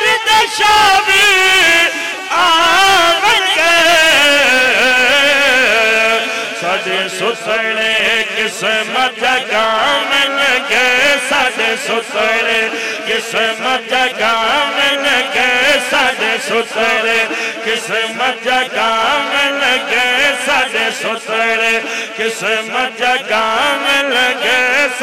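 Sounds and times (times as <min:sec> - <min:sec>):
men singing devotional song: 0:00.0 - 0:25.0.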